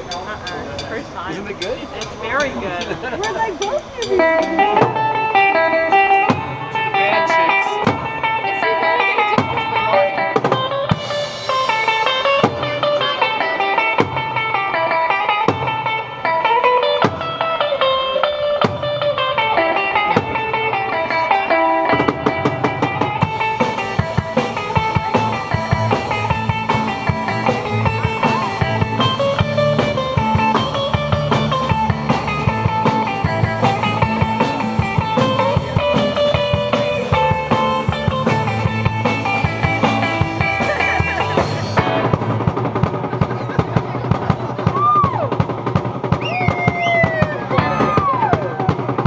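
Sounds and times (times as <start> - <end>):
bending guitar notes: 0.0 - 43.3, 44.0 - 49.0
live rock band playing: 0.0 - 49.0.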